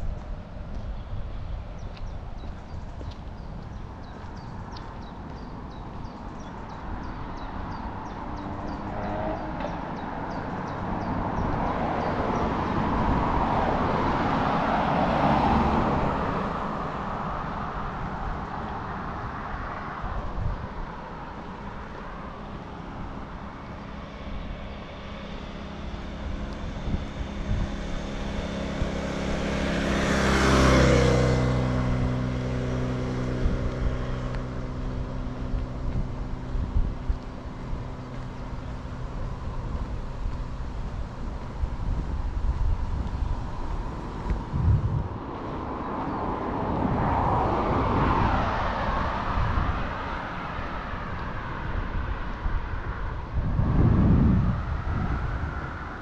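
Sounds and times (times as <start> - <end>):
cars passing: 0.0 - 56.0
engine humming: 0.0 - 56.0.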